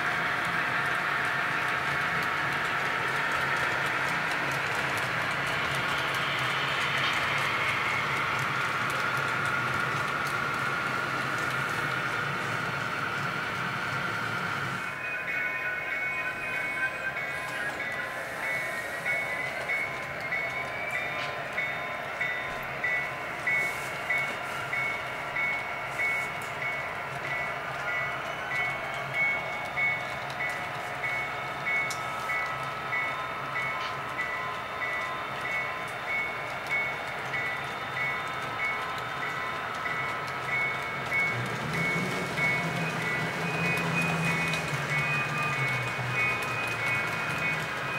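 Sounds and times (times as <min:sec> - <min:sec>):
model train wheels rumbling: 0:00.0 - 0:15.1, 0:16.3 - 0:47.9.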